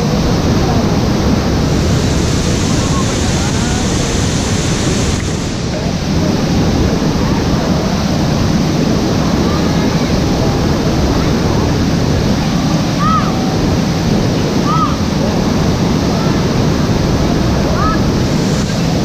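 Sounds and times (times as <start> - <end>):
waterfall rushing onto rocks: 0.0 - 19.0.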